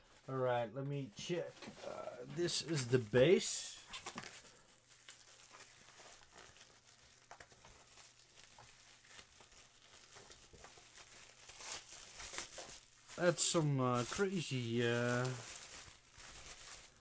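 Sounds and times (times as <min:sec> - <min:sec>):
bubble wrap crinkling: 0:00.0 - 0:00.3, 0:01.1 - 0:17.0.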